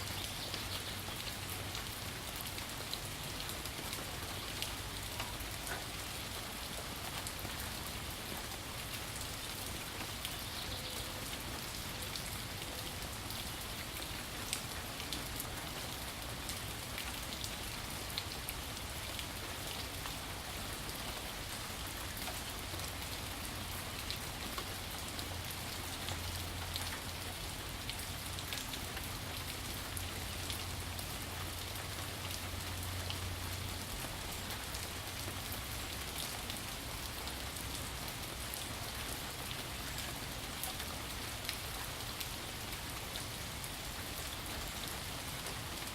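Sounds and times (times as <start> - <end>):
rain drops ticking on a surface: 0.0 - 45.9.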